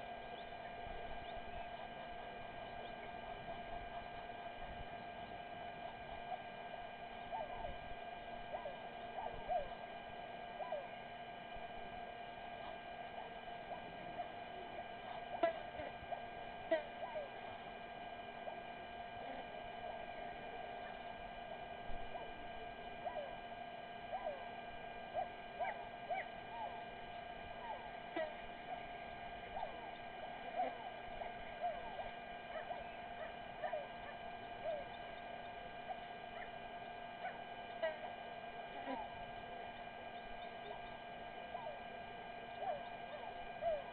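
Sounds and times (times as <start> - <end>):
faint chirping animal calls: 0.0 - 43.9
steady electrical hum: 0.0 - 43.9.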